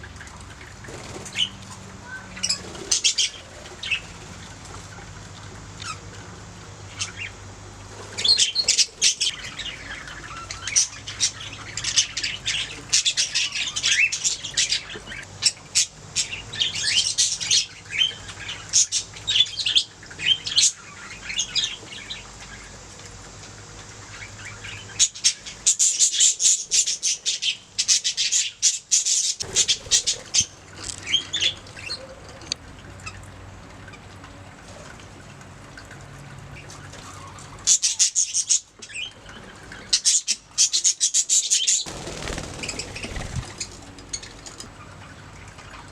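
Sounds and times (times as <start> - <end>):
budgerigars chattering and warbling: 0.0 - 4.2, 6.9 - 7.4, 8.1 - 22.8, 24.0 - 33.2, 36.6 - 45.9.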